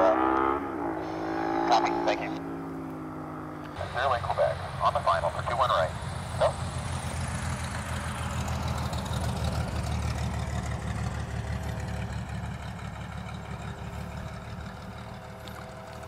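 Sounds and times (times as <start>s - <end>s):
distant airplane engine drone: 0.0s - 16.0s.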